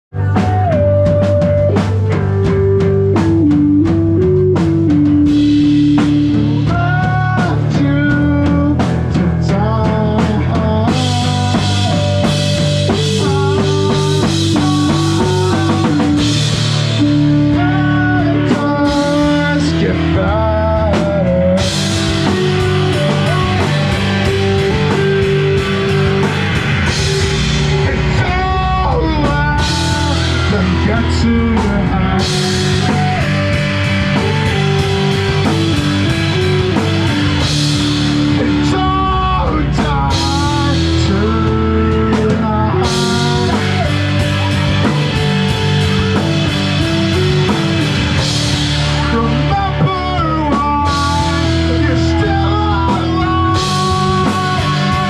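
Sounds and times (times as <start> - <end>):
rock band playing live: 0.1 - 55.0.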